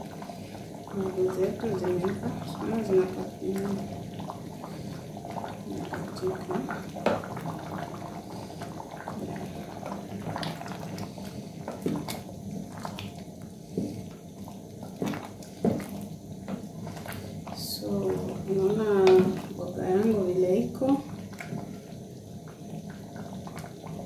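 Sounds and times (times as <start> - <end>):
liquid sloshing: 1.7 - 21.9.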